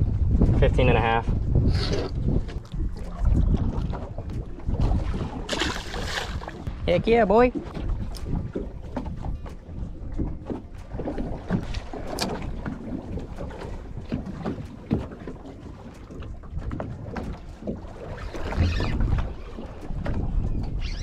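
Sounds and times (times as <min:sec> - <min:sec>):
waves lapping against boat hull: 0:00.0 - 0:21.0
wind buffeting microphone: 0:00.0 - 0:21.0.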